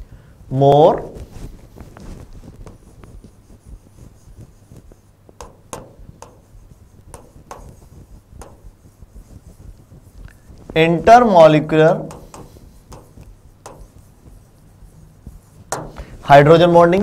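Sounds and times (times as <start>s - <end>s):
chalk tapping on chalkboard: 0.1s - 17.0s
chalk scratching on chalkboard: 0.5s - 17.0s.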